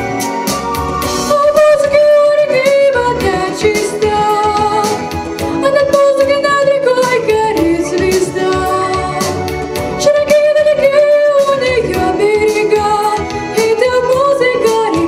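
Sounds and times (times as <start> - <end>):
pop song with drum beat: 0.0 - 15.0.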